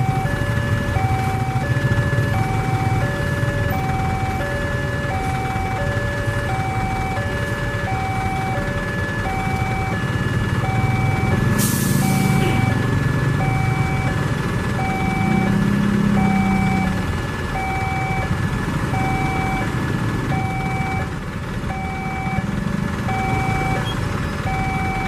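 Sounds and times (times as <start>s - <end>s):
two-tone level crossing alarm: 0.0s - 14.2s, 14.8s - 17.0s, 17.6s - 25.0s
truck engines idling: 0.0s - 25.0s.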